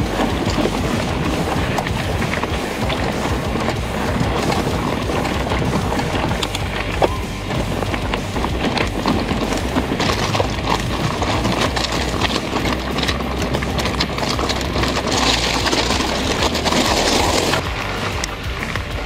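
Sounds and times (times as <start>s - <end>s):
bike knocks and rattles: 0.0s - 19.0s
bike tyres crunching on dirt: 0.0s - 19.0s.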